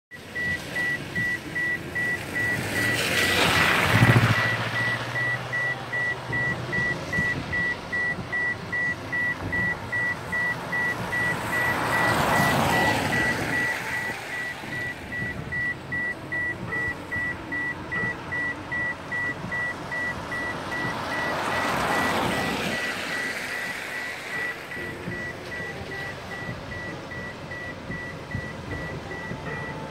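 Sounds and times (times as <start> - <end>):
high electronic warning beep: 0.1 - 29.9
vehicles passing on wet road: 0.1 - 29.9.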